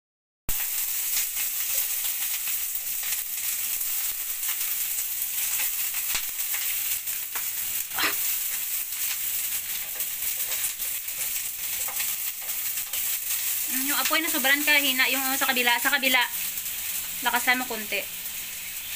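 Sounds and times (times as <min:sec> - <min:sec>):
hot oil sizzling and crackling: 0:00.5 - 0:18.9.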